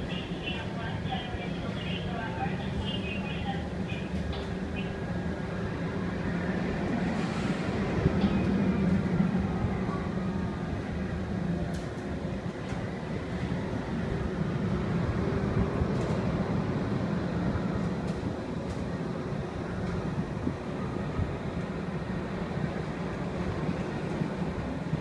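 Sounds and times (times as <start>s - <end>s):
ride machinery humming: 0.0s - 25.0s.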